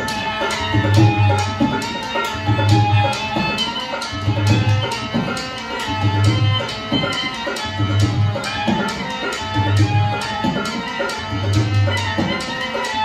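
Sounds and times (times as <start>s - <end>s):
hand drum rhythm: 0.0s - 13.0s
reedy snake charmer melody: 0.0s - 13.0s.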